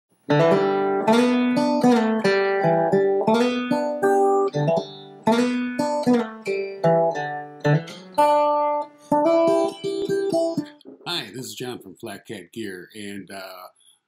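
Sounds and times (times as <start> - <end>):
acoustic guitar strumming: 0.3 - 11.7.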